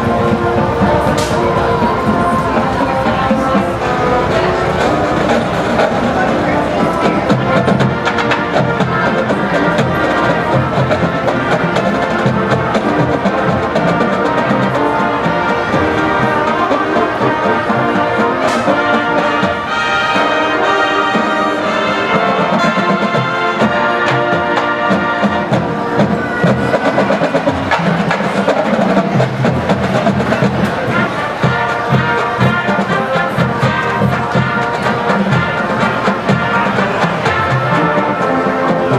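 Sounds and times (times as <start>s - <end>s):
horns playing melody: 0.0s - 38.9s
steady drumming: 0.0s - 38.9s.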